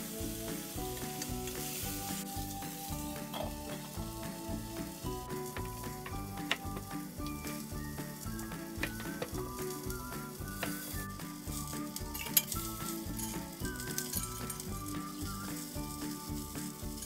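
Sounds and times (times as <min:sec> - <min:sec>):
background music: 0:00.0 - 0:17.0
fish sizzling in a pan: 0:00.0 - 0:17.0.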